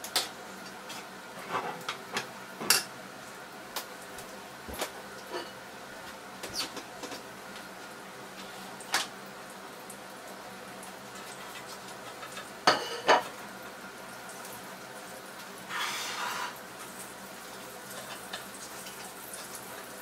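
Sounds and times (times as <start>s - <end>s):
egg frying with popping fat: 0.0s - 1.2s, 3.7s - 20.0s.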